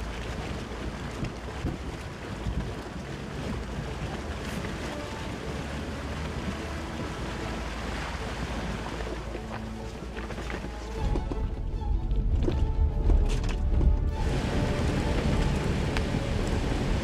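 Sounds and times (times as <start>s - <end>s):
water rushing and splashing: 0.0s - 17.0s
wind buffeting microphone: 0.0s - 17.0s.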